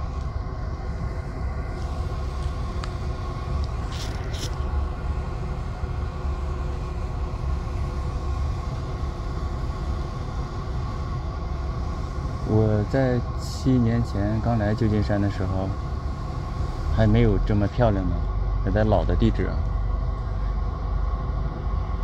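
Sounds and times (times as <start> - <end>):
coach engine rumbling: 0.0 - 22.0.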